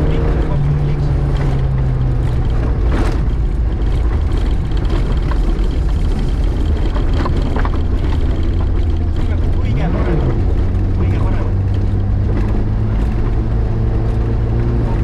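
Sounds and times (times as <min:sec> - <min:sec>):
gravel striking car: 0:00.0 - 0:15.0
rally car engine running hard: 0:00.0 - 0:15.0.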